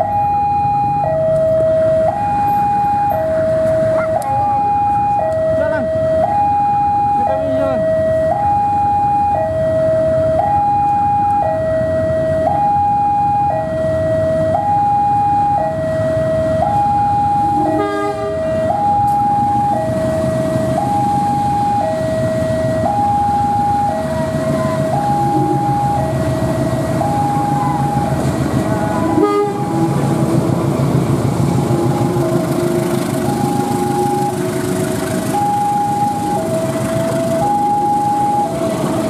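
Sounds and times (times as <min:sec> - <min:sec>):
two-tone warning alarm: 0:00.0 - 0:30.0, 0:31.7 - 0:39.0
diesel locomotive rumble: 0:00.0 - 0:39.0.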